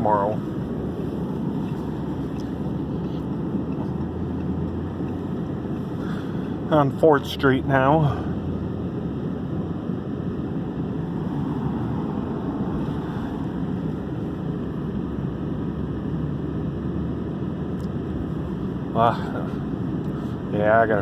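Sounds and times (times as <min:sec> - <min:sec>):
tyres on snowy road: 0:00.0 - 0:21.0
vehicle engine and road noise: 0:00.0 - 0:21.0.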